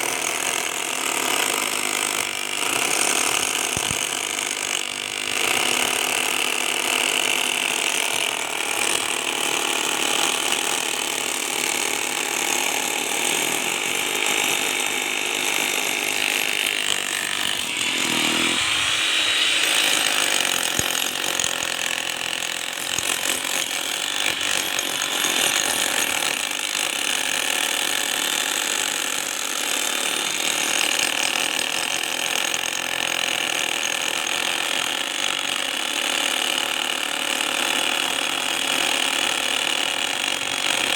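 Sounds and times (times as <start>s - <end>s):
power tool on concrete: 0.0s - 40.9s.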